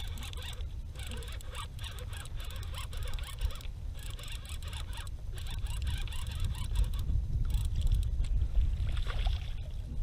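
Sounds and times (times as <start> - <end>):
water splashing against kayak: 0.0 - 10.0
wind rumble on microphone: 0.0 - 10.0.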